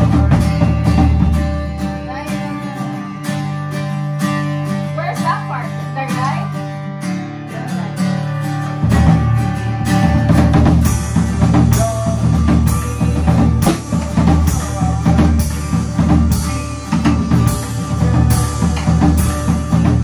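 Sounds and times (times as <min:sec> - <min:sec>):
drum kit beat: 0:00.0 - 0:06.7, 0:07.6 - 0:20.0
acoustic guitar strumming: 0:00.0 - 0:20.0.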